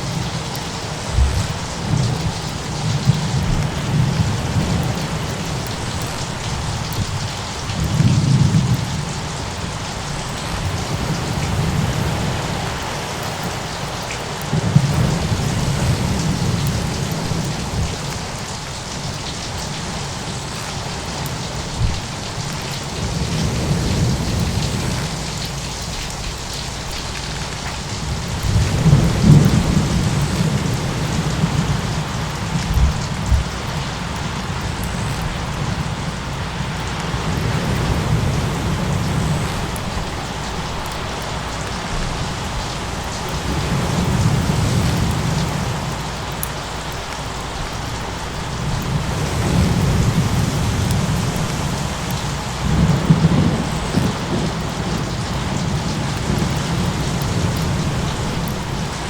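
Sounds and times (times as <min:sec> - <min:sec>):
low thunder rumbling: 0:00.0 - 0:59.0
rain hissing: 0:00.0 - 0:59.0.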